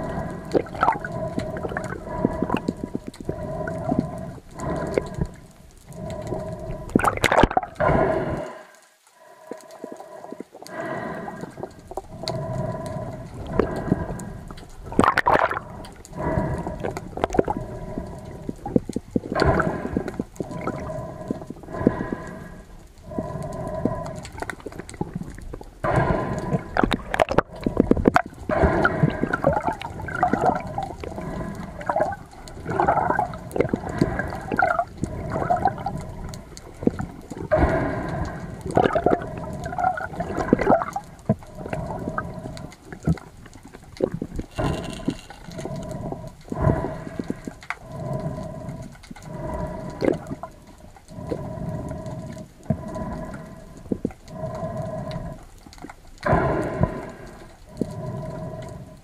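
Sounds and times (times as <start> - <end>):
water gurgling and sloshing: 0.0 - 59.0.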